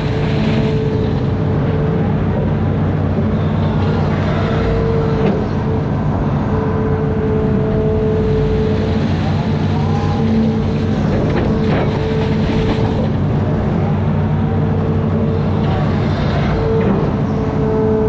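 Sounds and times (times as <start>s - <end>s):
diesel engine running: 0.0s - 18.0s
whine: 0.0s - 18.0s.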